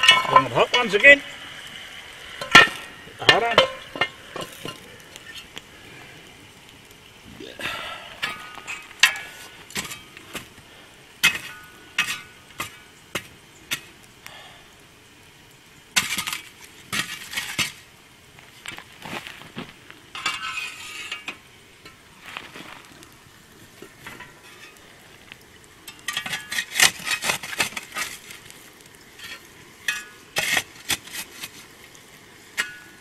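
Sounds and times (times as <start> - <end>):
metal shovel scraping coals: 0.0 - 14.6, 15.2 - 33.0.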